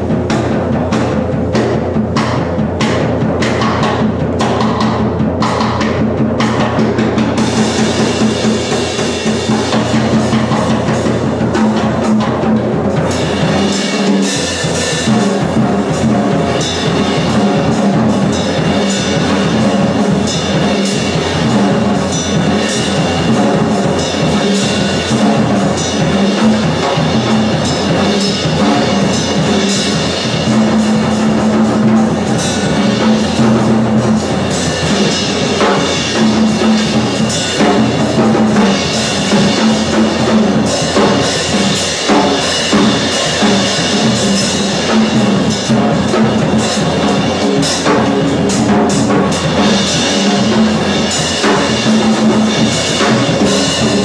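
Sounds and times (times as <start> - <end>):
fast drum strokes: 0.0 - 54.0.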